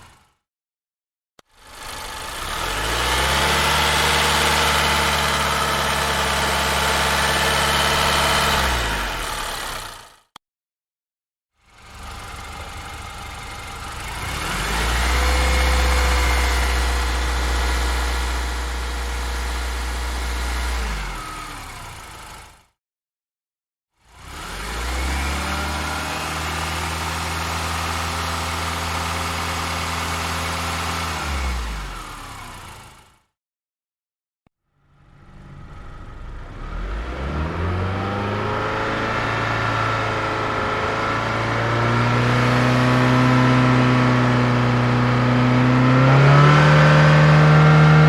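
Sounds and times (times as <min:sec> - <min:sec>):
car engine revving: 0:01.6 - 0:10.2, 0:11.7 - 0:22.3, 0:24.2 - 0:32.8, 0:35.1 - 0:48.0.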